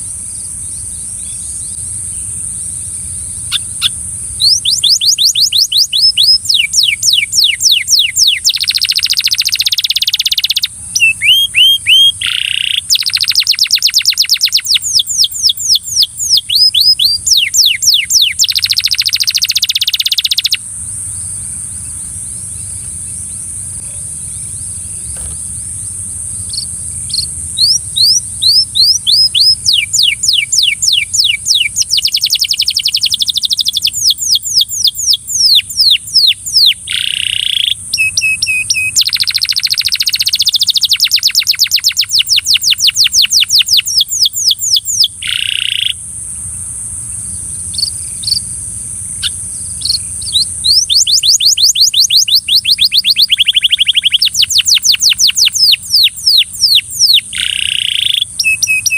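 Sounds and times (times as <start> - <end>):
canary singing trills: 0.0 - 46.0, 47.3 - 58.9
steady high hiss: 0.0 - 58.9.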